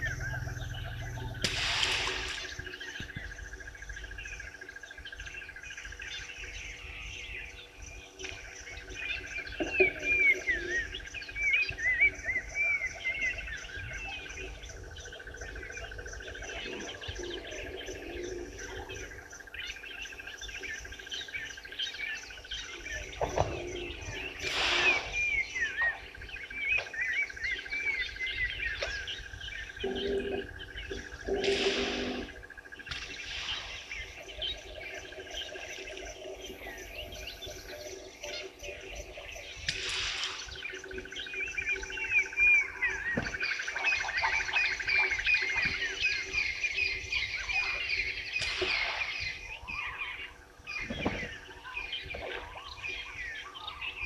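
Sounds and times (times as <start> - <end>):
birds whistling and calling: 0.0 - 54.0.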